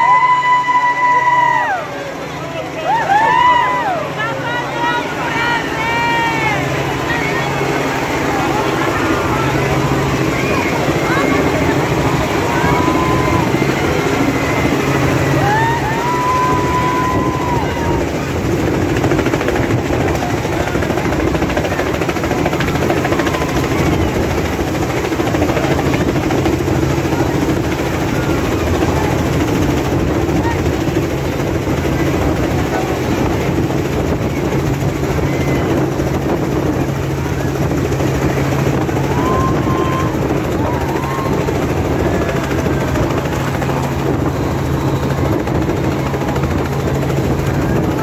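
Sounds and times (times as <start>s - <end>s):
helicopter rotor chop: 0.0s - 48.0s.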